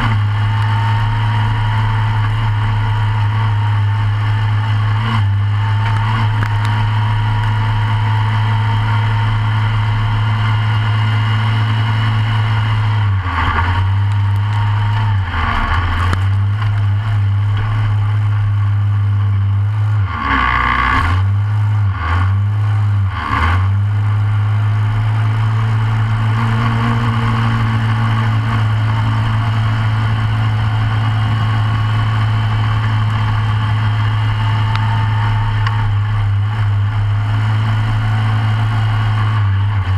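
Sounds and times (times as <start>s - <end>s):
kart engine idling: 0.0s - 20.0s, 23.8s - 39.9s.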